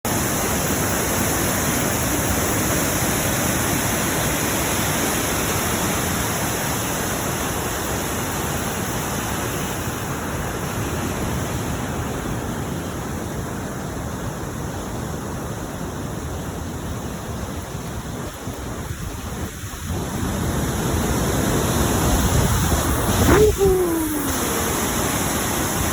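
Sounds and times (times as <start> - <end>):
waterfall splashing over rocks: 0.1 - 25.9.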